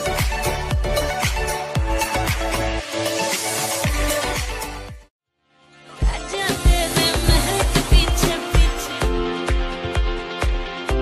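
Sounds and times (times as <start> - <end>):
music with heavy bass beat: 0.0 - 5.1, 6.0 - 11.0.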